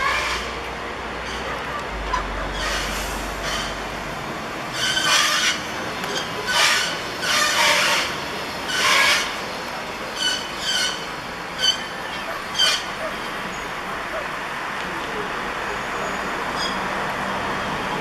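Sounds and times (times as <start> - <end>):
bus brakes squealing: 1.2 - 9.5, 10.1 - 14.0, 15.6 - 18.0.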